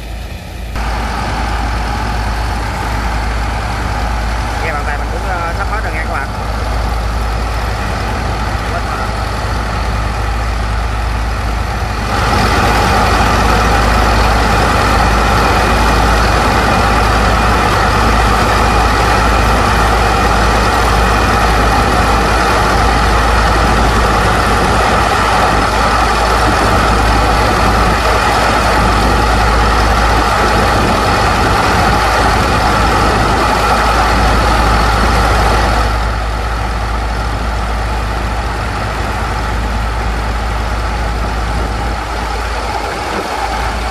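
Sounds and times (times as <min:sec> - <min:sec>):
pump engines running: 0:00.0 - 0:43.9
rush of water and sand slurry: 0:00.8 - 0:43.9.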